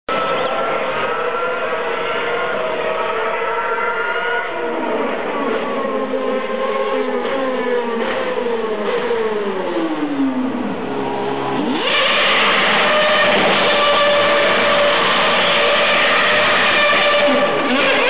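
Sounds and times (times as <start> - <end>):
racing car engine: 0.1 - 18.0.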